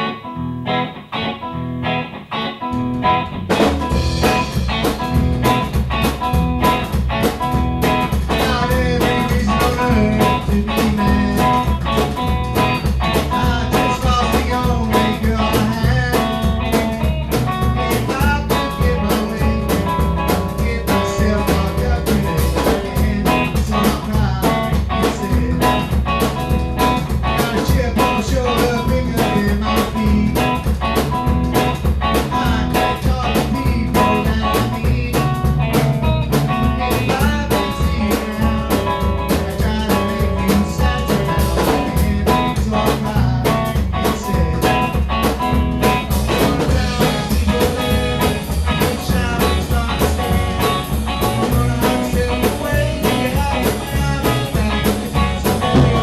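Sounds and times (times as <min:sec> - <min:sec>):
band playing upbeat song: 0:00.0 - 0:56.0.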